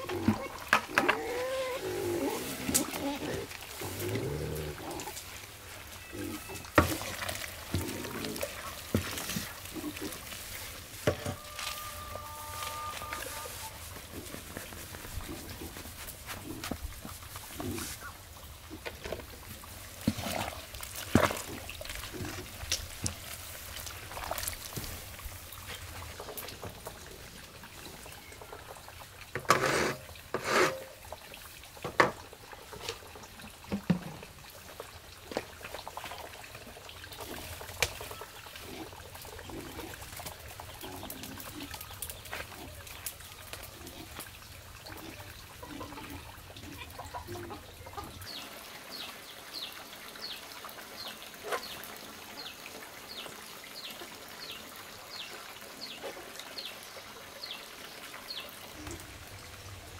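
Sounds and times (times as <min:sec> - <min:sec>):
liquid sloshing and trickling: 0:00.0 - 0:59.9.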